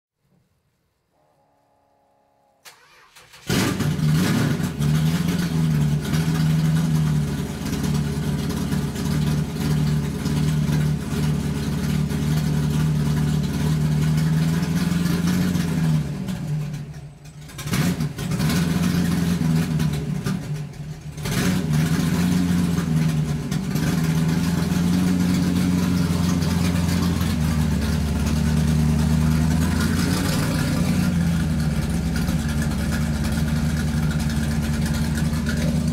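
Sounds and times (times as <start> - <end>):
car engine and road noise: 2.6 - 35.9.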